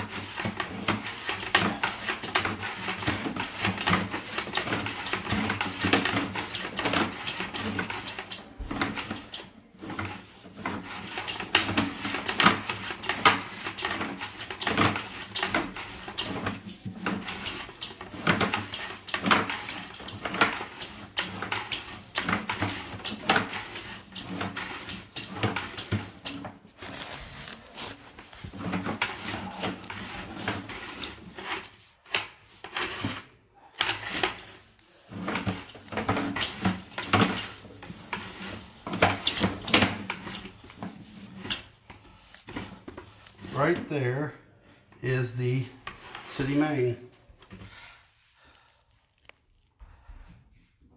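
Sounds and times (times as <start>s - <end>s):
cable clicking and rattling in pipe: 0.0s - 43.5s.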